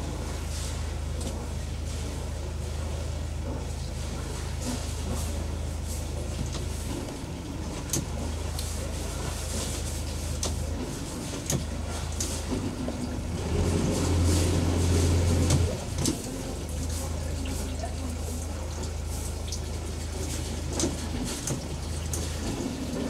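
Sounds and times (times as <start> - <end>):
motorboat engine idling: 0.0 - 23.0
water churning: 0.0 - 23.0.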